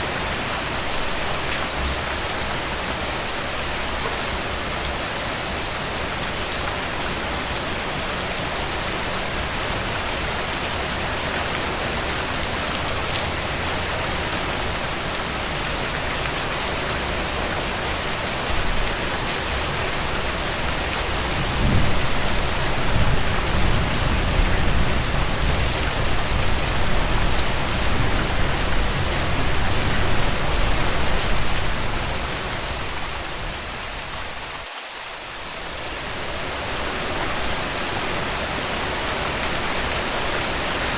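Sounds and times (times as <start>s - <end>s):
rain falling on a tent: 0.0s - 40.9s.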